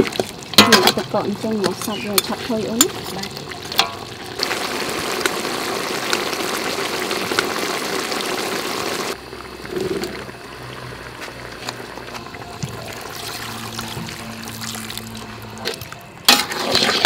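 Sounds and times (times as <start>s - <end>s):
curry sizzling in a pot: 0.0s - 15.6s
coconut water pouring: 3.2s - 17.0s.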